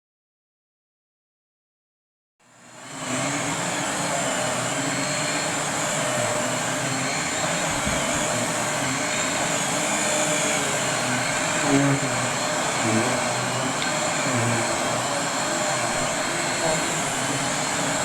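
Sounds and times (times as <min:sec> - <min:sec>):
vacuum cleaner running: 0:02.4 - 0:18.0.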